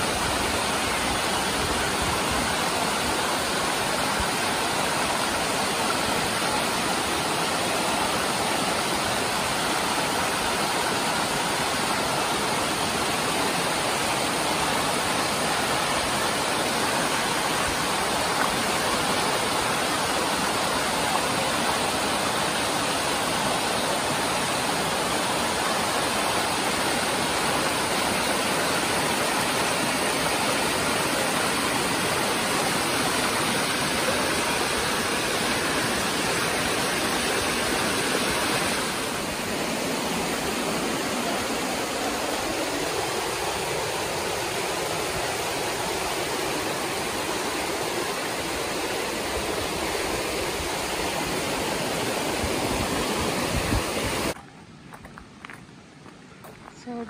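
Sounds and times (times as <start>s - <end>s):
waterfall rushing over rocks: 0.0s - 54.4s.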